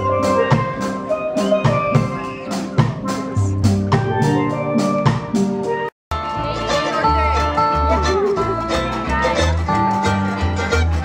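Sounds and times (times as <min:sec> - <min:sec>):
bass line: 0:00.0 - 0:11.0
steady drum beat: 0:00.0 - 0:11.0.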